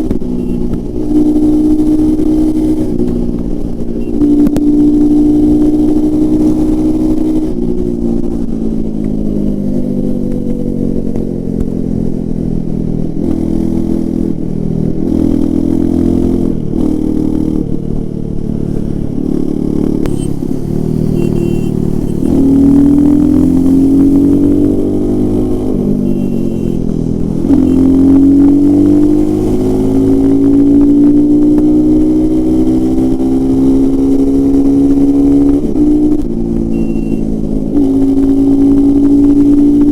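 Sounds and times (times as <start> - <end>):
motorcycle engine revving: 0.0 - 12.3, 13.0 - 39.9.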